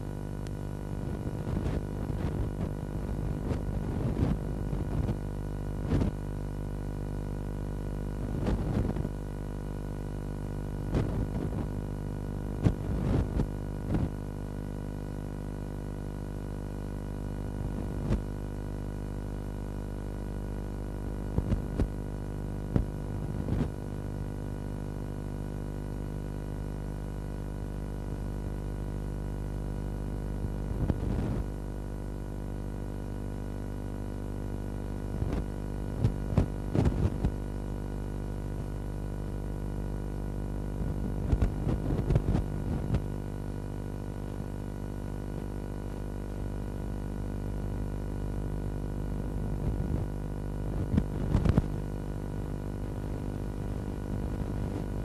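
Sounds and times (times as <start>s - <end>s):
droning hum: 0.0s - 14.8s, 15.6s - 55.0s.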